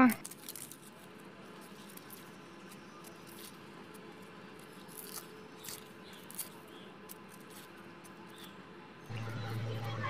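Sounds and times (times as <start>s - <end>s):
low steady hum: 0.1s - 10.0s
knife scraping onion skin: 0.2s - 8.6s.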